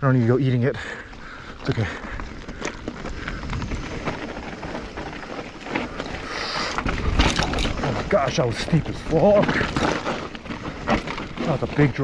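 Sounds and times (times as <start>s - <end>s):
bike rattling and clicking: 0.0s - 12.0s
bike tyres crunching and skidding: 0.0s - 12.0s
wind buffeting microphone: 0.7s - 12.0s.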